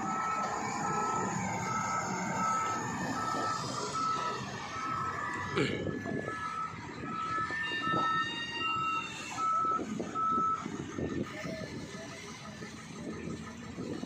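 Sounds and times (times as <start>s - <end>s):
reversing alarm beeping: 0.0s - 12.3s
diesel engine running: 0.0s - 14.0s.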